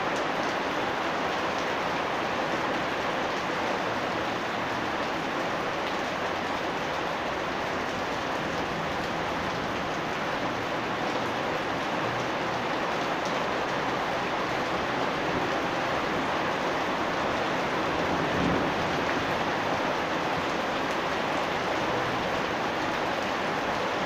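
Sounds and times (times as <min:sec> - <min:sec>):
rain pattering: 0:00.0 - 0:24.0.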